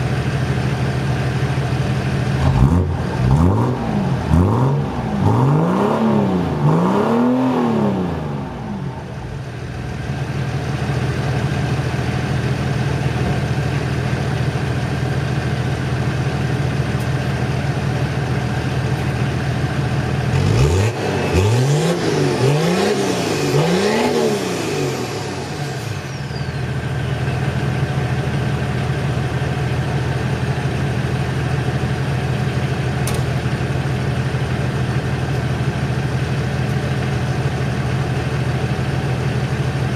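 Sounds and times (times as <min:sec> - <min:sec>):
diesel car engine idling and revving: 0:00.0 - 0:39.9.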